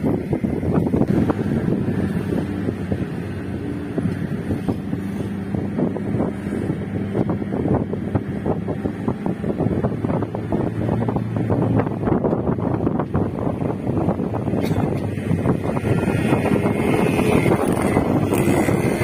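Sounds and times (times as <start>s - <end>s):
car engine running: 0.0s - 19.0s
wind gusting across microphone: 0.0s - 19.0s.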